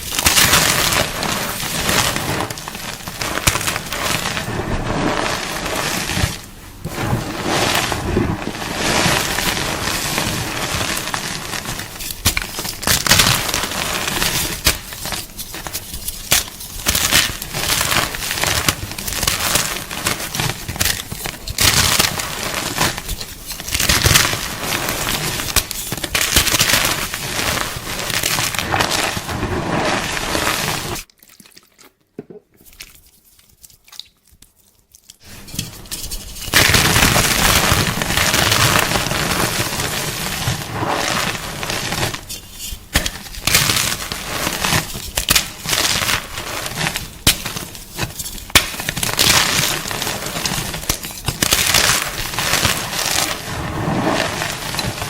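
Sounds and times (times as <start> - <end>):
chalk crunching and crumbling: 0.0 - 31.1, 32.6 - 55.0.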